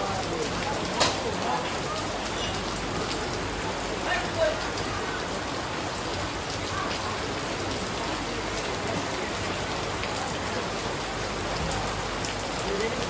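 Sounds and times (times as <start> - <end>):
rain hissing on hard surfaces: 0.0 - 13.0.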